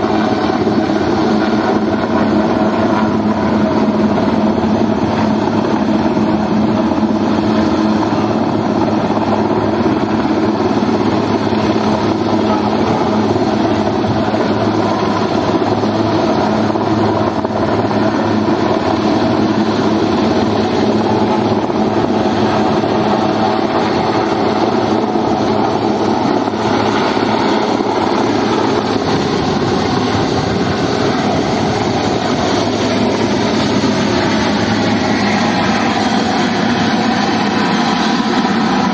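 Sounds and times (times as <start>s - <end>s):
helicopter hovering drone: 0.0s - 38.9s.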